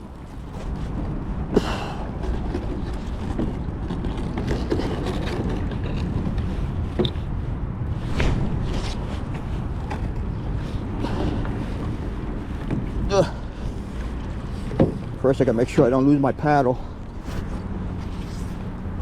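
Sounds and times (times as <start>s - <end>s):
creek water moving: 0.0s - 19.0s
wind noise: 0.0s - 19.0s.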